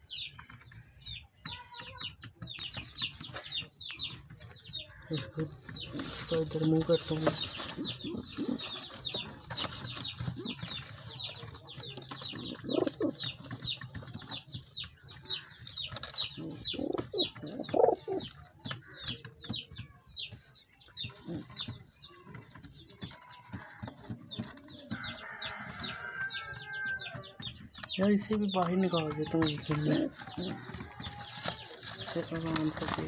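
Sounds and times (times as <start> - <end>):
small birds peeping: 0.0 - 33.0.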